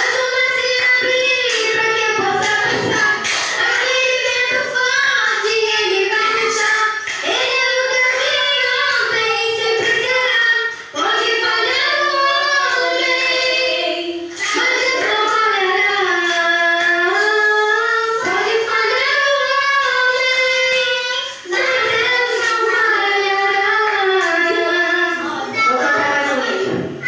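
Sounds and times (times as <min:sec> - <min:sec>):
girl singing: 0:00.0 - 0:27.0.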